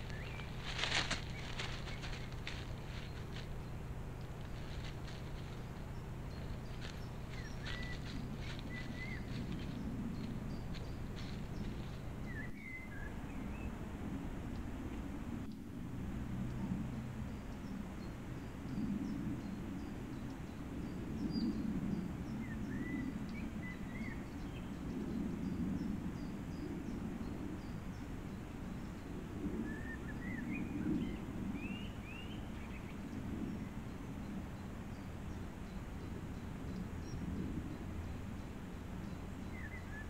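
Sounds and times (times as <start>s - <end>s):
small birds chirping: 0.0s - 13.8s, 17.2s - 40.0s
steady low rumble: 0.0s - 40.0s.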